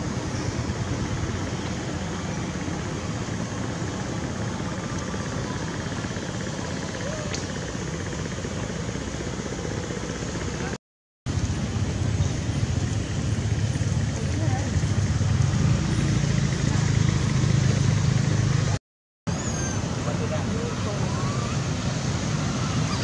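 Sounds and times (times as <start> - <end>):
outdoor background rumble: 0.0 - 23.0.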